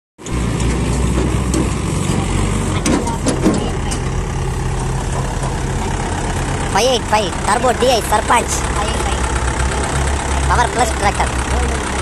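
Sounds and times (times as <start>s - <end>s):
diesel engine running: 0.2s - 12.0s.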